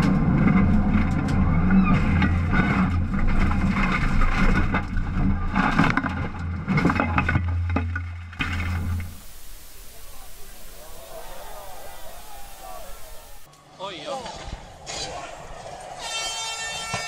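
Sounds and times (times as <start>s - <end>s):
tyres on gravel: 0.0s - 17.0s.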